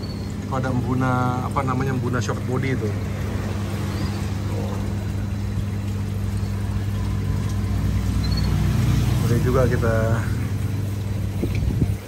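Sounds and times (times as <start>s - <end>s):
bubbling aquarium water: 0.0s - 12.0s.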